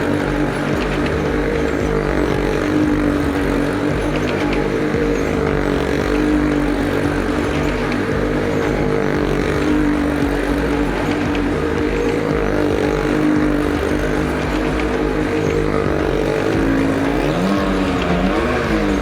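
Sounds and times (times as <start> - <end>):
vehicle engines droning: 0.0 - 19.0.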